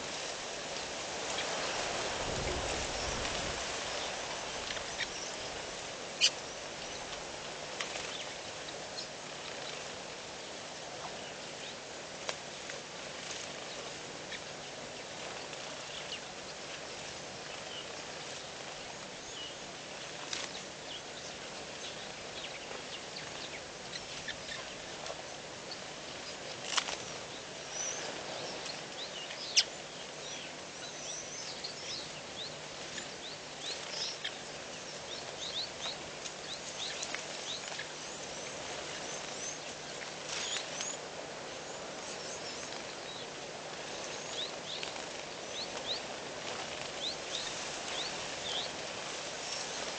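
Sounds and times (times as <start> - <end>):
outdoor background noise: 0.0 - 49.9
small birds chirping: 0.0 - 49.9.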